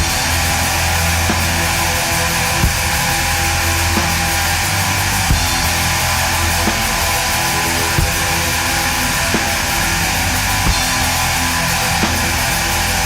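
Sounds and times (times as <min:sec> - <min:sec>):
distorted electric guitar rock: 0:00.0 - 0:13.0.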